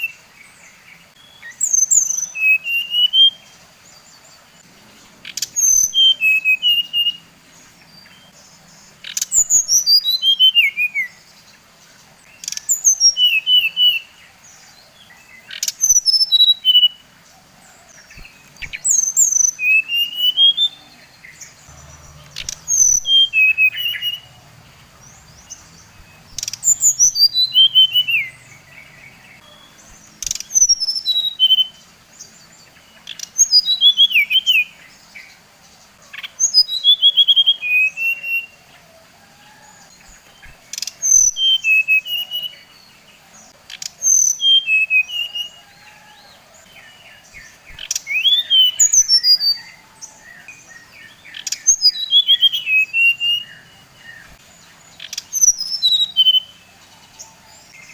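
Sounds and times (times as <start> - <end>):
bird singing whistled notes: 0.0 - 11.5, 12.2 - 35.4, 36.1 - 38.6, 39.4 - 43.1, 43.7 - 57.9.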